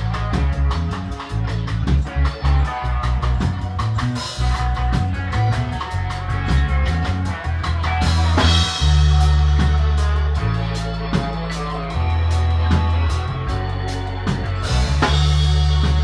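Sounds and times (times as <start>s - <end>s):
live surf-ska band playing: 0.0s - 16.0s.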